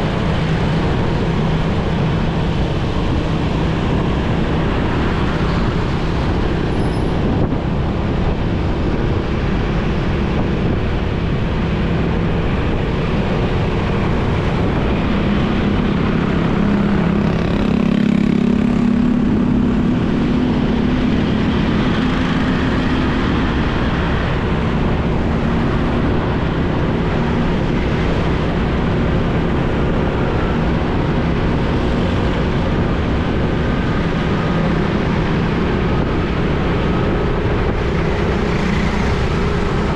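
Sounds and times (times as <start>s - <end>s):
motorcycle engine hum: 0.0s - 39.9s
surrounding traffic: 0.0s - 39.9s
wind and road noise: 0.0s - 39.9s.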